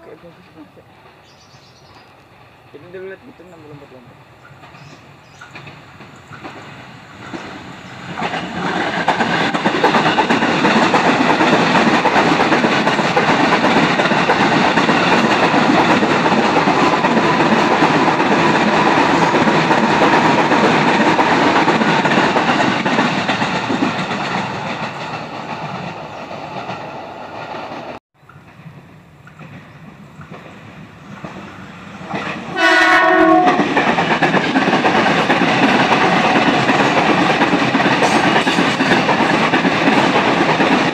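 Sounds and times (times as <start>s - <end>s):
train wheels clattering over rail joints: 4.4s - 40.9s.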